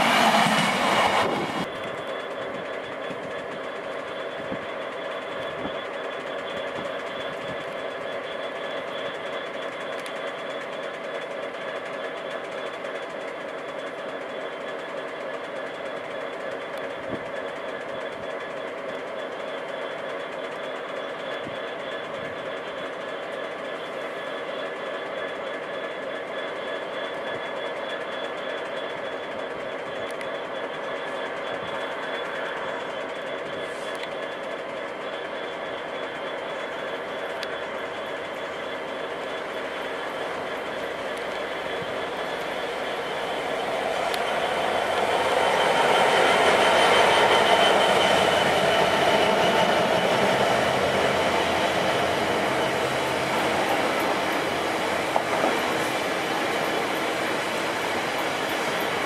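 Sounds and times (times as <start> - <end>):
diesel locomotive engine whine: 0.0 - 59.0
freight train rolling over points: 0.0 - 59.0.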